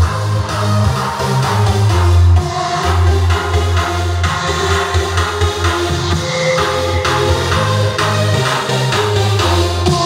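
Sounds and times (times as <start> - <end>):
music with heavy bass and beat: 0.0 - 10.0.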